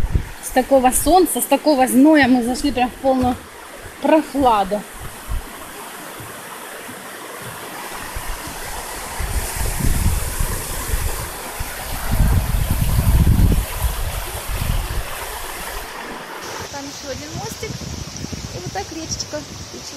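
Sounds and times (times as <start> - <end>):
stream rushing over rocks: 0.0 - 19.9.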